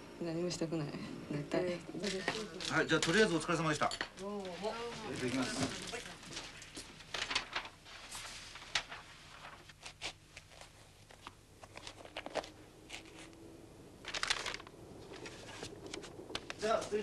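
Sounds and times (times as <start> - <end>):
rustling of people moving: 1.1 - 13.4, 14.0 - 17.0.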